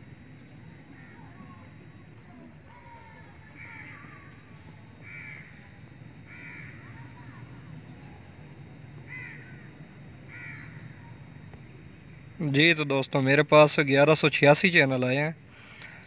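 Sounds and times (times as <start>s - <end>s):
low steady background noise: 0.0s - 16.0s.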